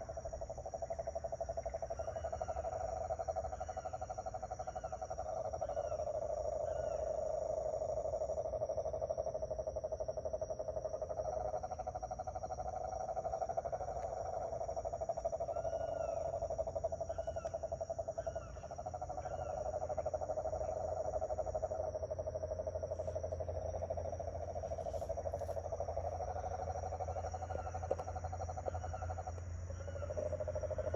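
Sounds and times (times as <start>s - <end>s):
high insect drones: 0.0s - 30.9s
toads or frogs trilling: 0.0s - 30.9s.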